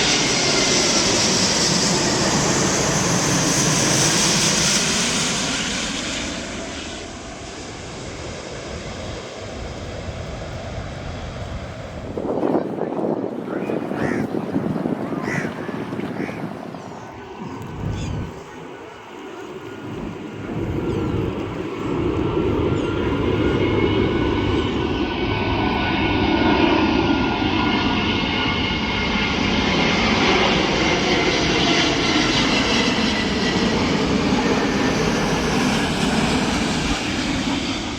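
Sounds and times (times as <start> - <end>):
jet airliner engine roar: 0.0 - 37.9.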